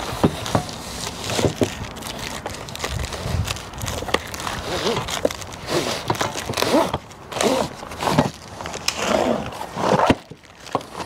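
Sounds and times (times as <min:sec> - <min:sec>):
hands rustling packaging: 0:00.0 - 0:11.0.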